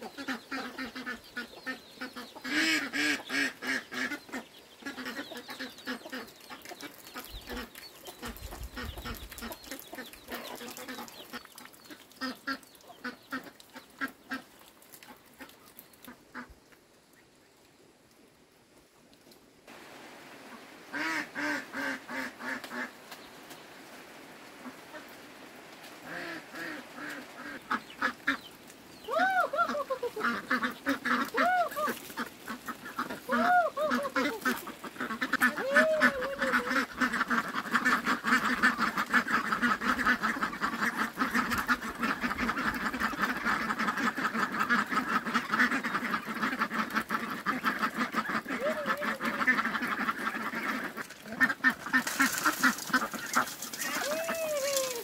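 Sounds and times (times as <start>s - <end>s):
ducks quacking: 0.0s - 16.6s, 20.4s - 23.2s, 24.6s - 25.2s, 26.0s - 55.0s.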